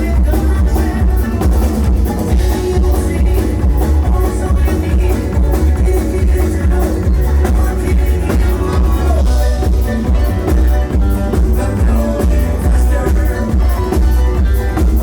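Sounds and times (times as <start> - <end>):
live bluegrass band playing: 0.0 - 15.0.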